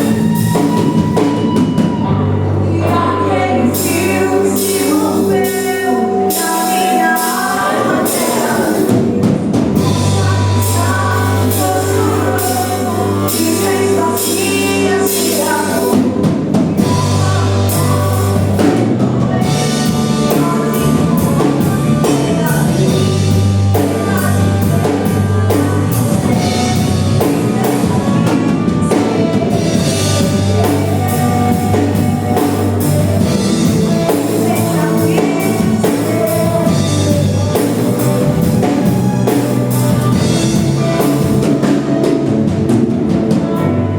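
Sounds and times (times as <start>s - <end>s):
drum kit beat: 0.0s - 43.9s
gospel band playing: 0.0s - 43.9s
person singing: 0.0s - 43.9s.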